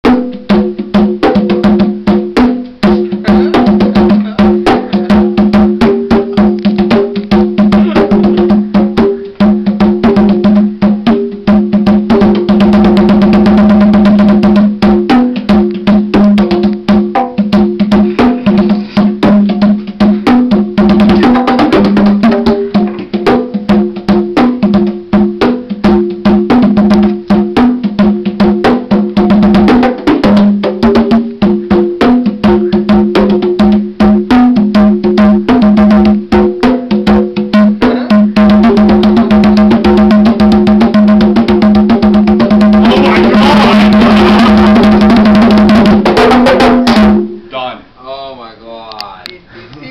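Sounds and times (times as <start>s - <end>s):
bongos and congas played by hand: 0.0s - 47.5s.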